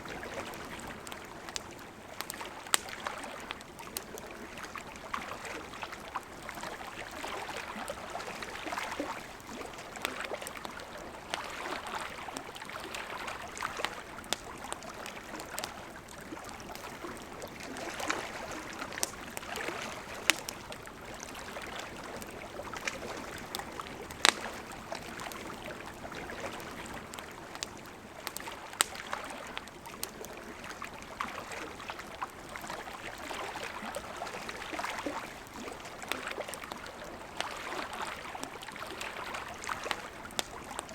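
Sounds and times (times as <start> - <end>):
campfire crackling and popping: 0.0 - 40.9
river water flowing: 0.0 - 40.9.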